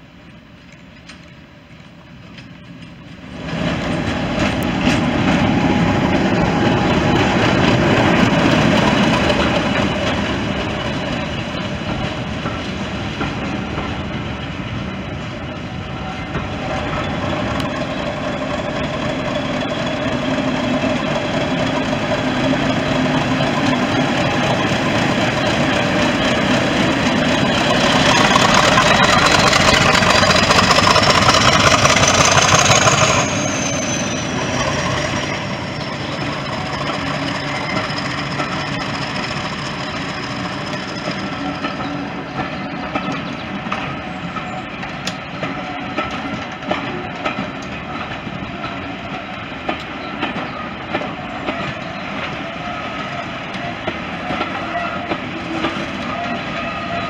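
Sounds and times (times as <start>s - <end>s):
diesel locomotive engine passing: 0.0s - 57.0s.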